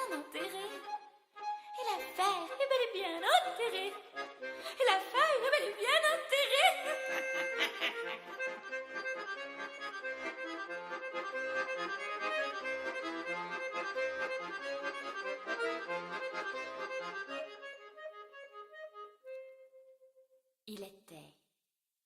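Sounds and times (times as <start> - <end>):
accordion playing: 0.0 - 20.3.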